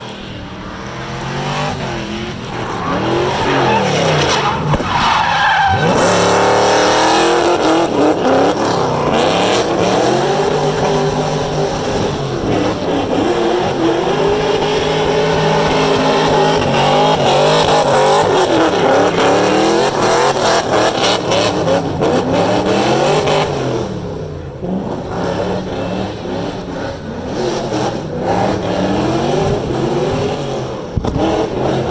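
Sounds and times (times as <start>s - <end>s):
car engine revving: 0.0s - 31.9s
tyres skidding and squealing: 0.0s - 31.9s.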